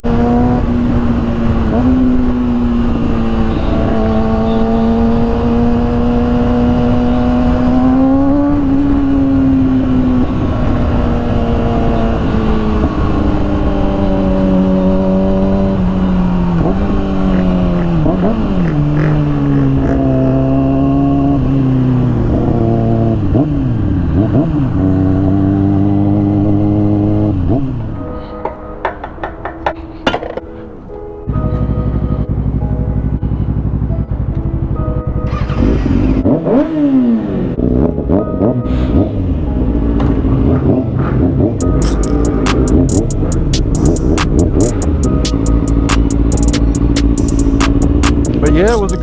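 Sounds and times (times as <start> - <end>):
motorcycle engine running: 0.0 - 27.8, 31.4 - 37.8, 39.1 - 49.0.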